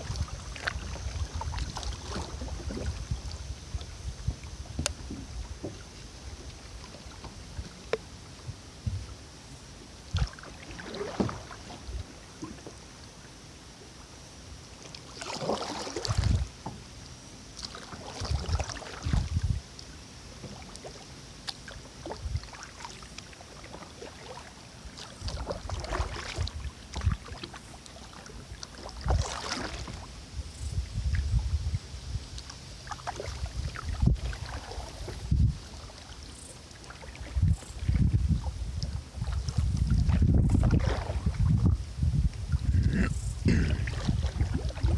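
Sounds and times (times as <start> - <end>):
kayak paddle splashing in water: 0.0 - 9.2, 10.1 - 13.4, 14.8 - 16.9, 17.5 - 31.3, 32.2 - 41.8, 42.4 - 44.9.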